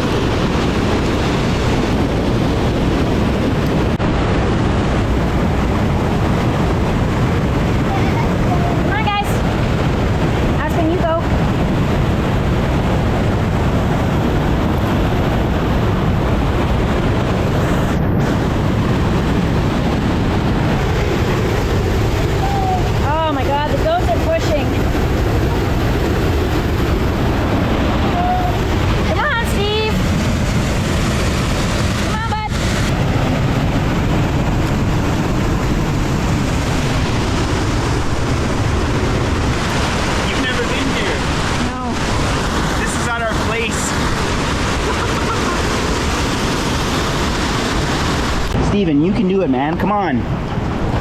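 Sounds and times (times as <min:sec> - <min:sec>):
waterfall and creek rushing: 0:00.0 - 0:50.6.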